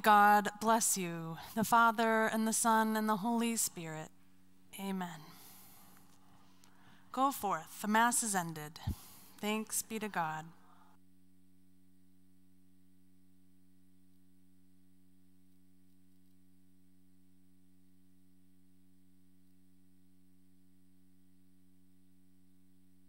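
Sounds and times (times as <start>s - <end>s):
low electrical mains hum: 0.0s - 23.0s.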